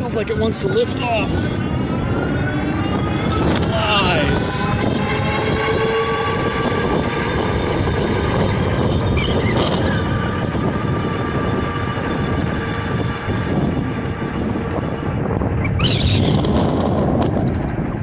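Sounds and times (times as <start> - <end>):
wind rushing over microphone: 0.0 - 18.0
electric motor whine: 0.5 - 17.9.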